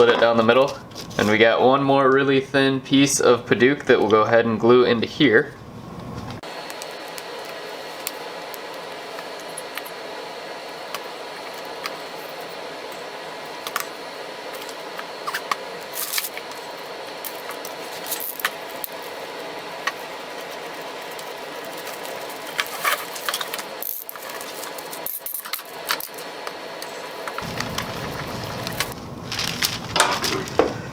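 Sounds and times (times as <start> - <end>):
steady hum: 0.0 - 30.9.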